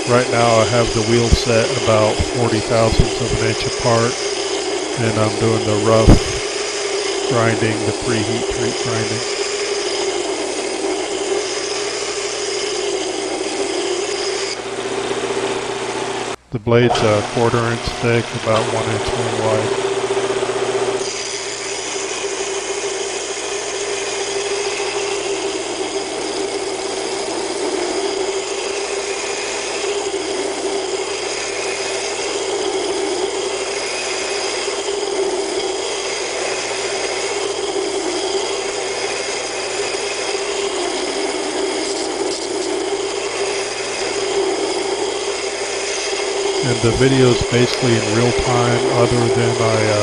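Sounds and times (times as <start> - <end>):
steel grinding on belt: 0.0 - 16.3, 16.9 - 50.0
belt grinder motor hum: 0.0 - 50.0.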